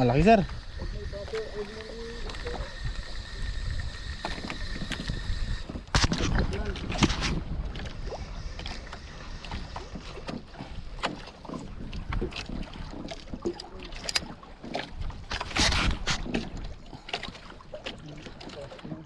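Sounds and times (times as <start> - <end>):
wind on microphone: 0.0 - 18.1
water lapping against boat hull: 0.0 - 19.0.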